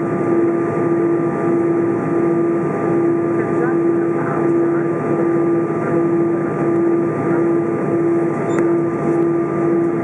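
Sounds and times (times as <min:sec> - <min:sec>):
droning hum: 0:00.0 - 0:10.0
jet engine cabin rush: 0:00.0 - 0:10.0.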